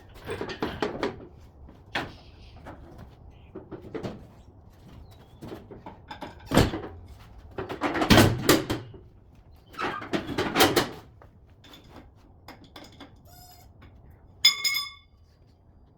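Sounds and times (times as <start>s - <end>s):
knocks and scraping: 0.0s - 13.2s.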